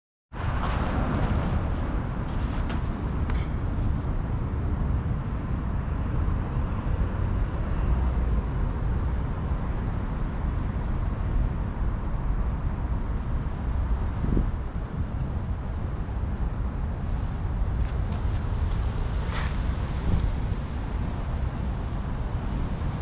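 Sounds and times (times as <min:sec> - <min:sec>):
wind buffeting microphone: 0:00.3 - 0:23.0.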